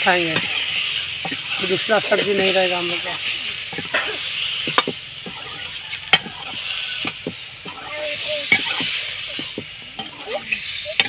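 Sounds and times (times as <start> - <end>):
tomatoes sizzling in oil: 0.0 - 11.0.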